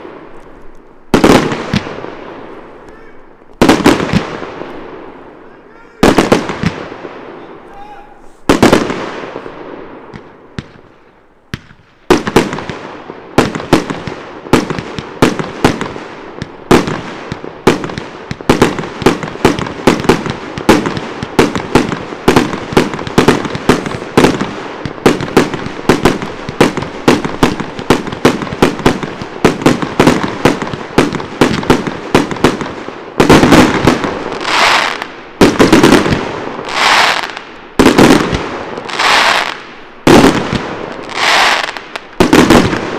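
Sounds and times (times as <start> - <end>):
fireworks bangs: 0.0 - 42.9
fireworks crackle: 0.0 - 42.9.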